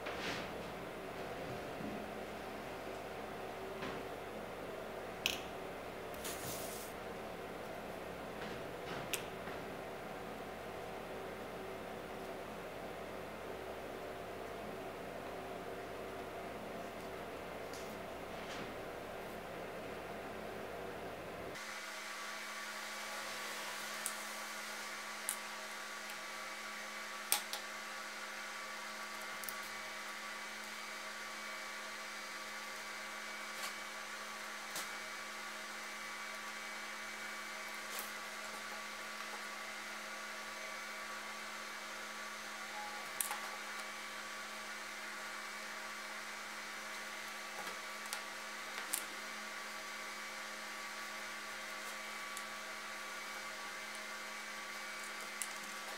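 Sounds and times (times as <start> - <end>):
electrical hum and hiss: 0.0 - 55.9.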